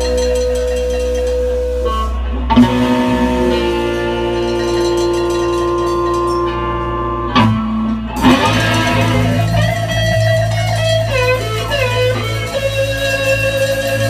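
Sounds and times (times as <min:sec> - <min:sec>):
blues band playing live: 0:00.0 - 0:14.0
slide guitar bending notes: 0:00.0 - 0:14.0.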